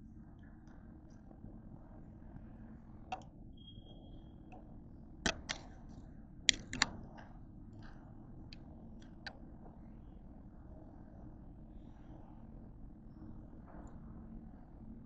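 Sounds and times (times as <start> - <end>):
low steady background hum: 0.0 - 15.0.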